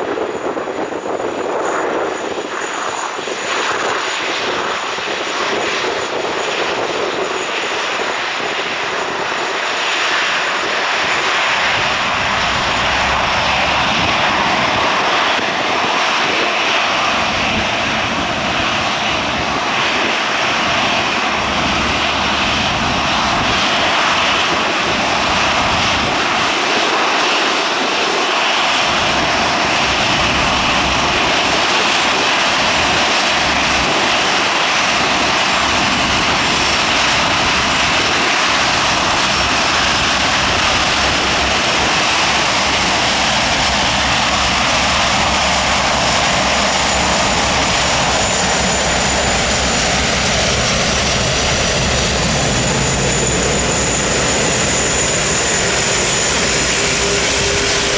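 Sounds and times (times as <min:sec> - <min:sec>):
jet engines whine and hiss: 0:00.0 - 0:57.9.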